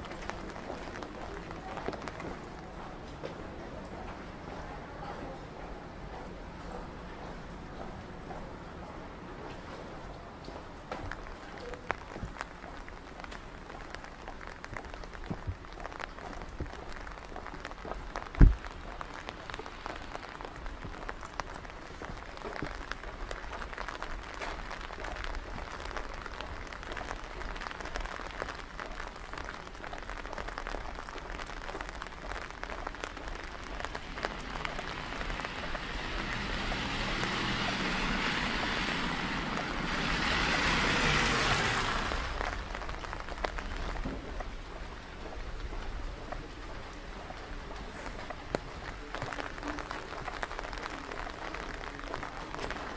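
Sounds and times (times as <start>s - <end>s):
light rain pattering: 0.0s - 52.9s.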